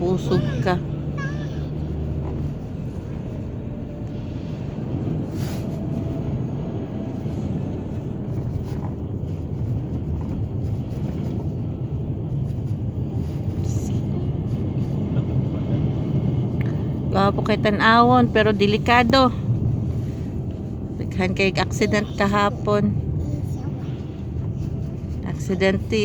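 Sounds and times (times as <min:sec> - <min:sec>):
car engine and tyres rumbling: 0:00.0 - 0:26.0.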